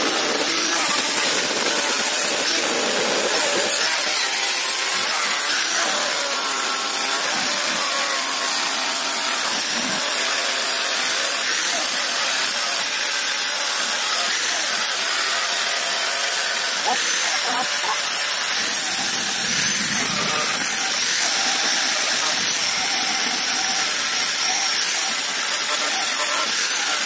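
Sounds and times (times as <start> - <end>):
angle grinder grinding metal pipe: 0.0 - 27.0.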